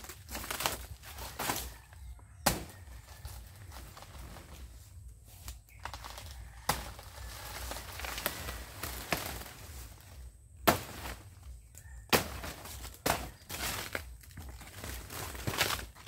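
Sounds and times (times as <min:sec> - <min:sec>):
leaves rustling and crackling: 0:00.0 - 0:16.0.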